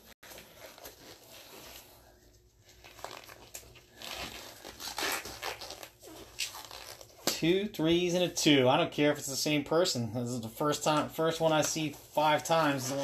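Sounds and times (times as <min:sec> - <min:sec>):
rustling and handling noise: 0:00.0 - 0:08.6, 0:10.4 - 0:13.0.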